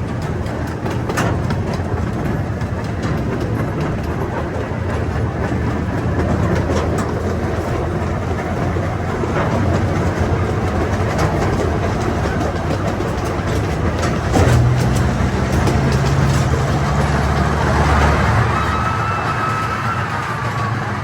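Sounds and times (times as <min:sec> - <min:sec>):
train rumble: 0:00.0 - 0:21.0
wheels clicking over rail joints: 0:00.0 - 0:21.0.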